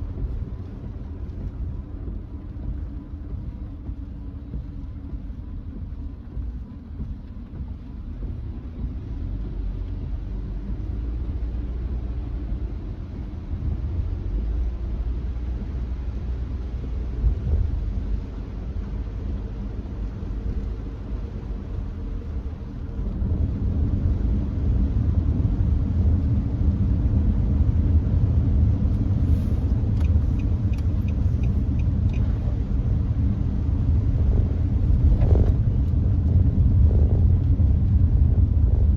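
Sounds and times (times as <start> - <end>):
car road and drivetrain rumble: 0.0 - 38.9.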